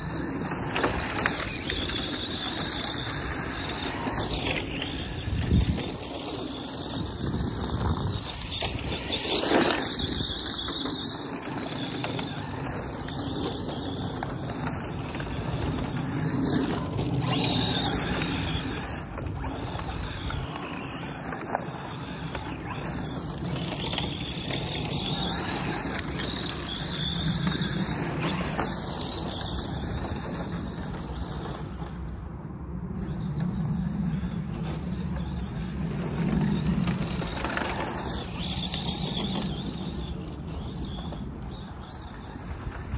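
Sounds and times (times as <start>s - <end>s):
truck sliding on loose dirt: 0.0s - 42.9s.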